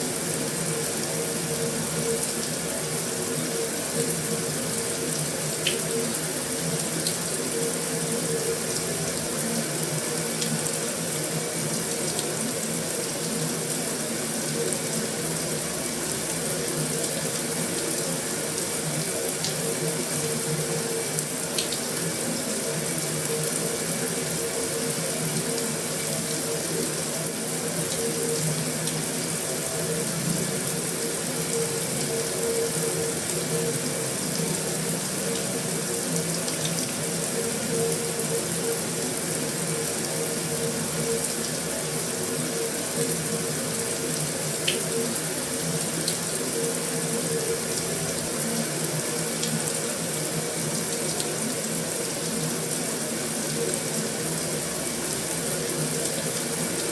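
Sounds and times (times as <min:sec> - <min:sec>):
heavy rain on a metal roof: 0:00.1 - 0:56.9.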